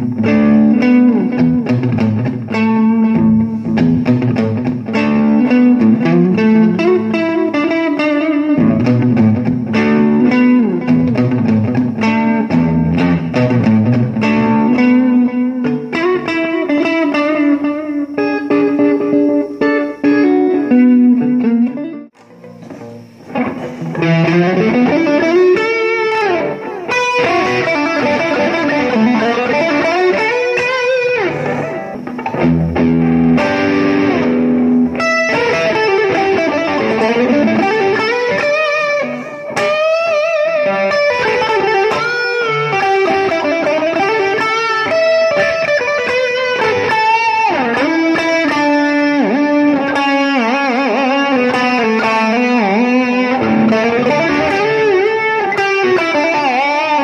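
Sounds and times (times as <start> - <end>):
overdriven electric guitar solo: 0.0 - 57.0.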